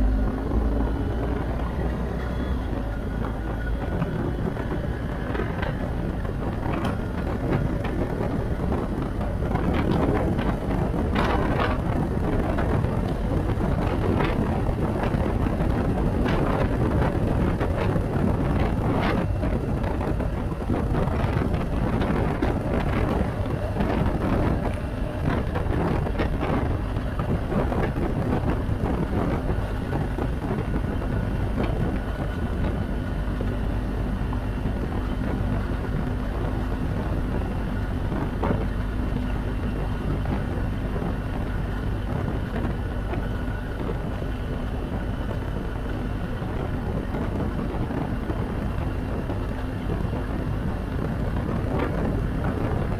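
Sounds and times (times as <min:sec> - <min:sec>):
motorcycle riding: 0:00.0 - 0:52.9
wind rushing over microphone: 0:00.0 - 0:52.9.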